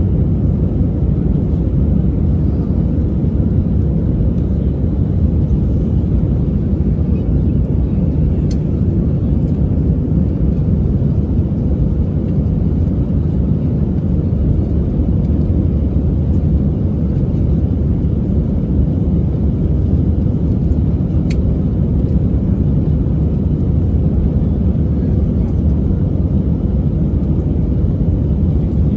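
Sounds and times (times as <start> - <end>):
airplane cabin engine roar: 0.0 - 28.9.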